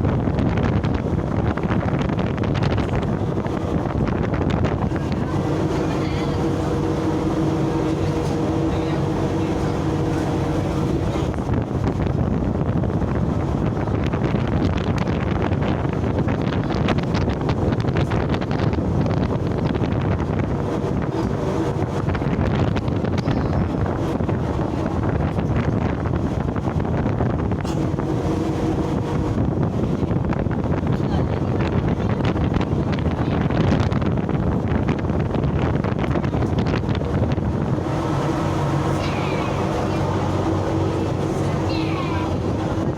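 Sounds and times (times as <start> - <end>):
sea noise: 0.0 - 14.6, 18.8 - 31.0, 35.0 - 42.9
ship noise: 0.0 - 42.9
wind rushing over microphone: 0.0 - 42.9.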